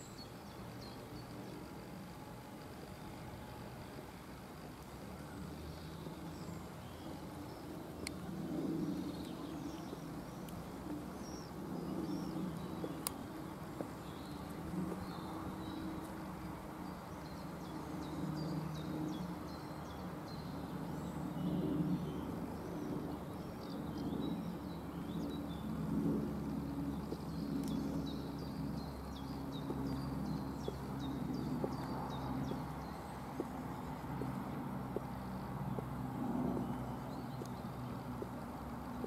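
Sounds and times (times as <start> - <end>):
low steady rumble: 0.0 - 39.0
small birds chirping: 0.0 - 39.0.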